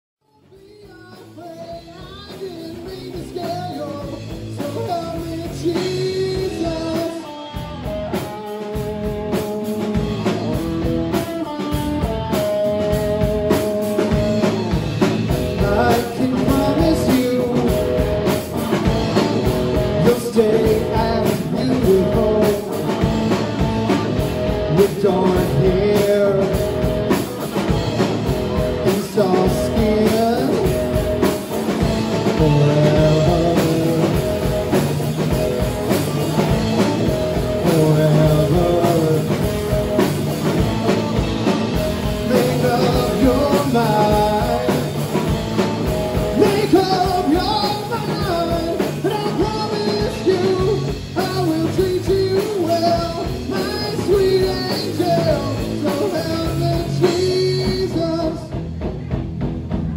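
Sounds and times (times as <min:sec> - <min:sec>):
man singing lead vocal: 0:00.2 - 0:07.7, 0:15.3 - 0:58.6
rock band playing: 0:00.2 - 0:59.9.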